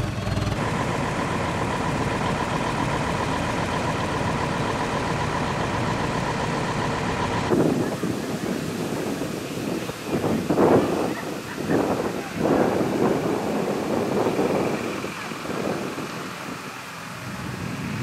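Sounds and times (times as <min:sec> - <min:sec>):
diesel lorries pulling away: 0:00.0 - 0:18.0
distant truck traffic: 0:00.0 - 0:18.0.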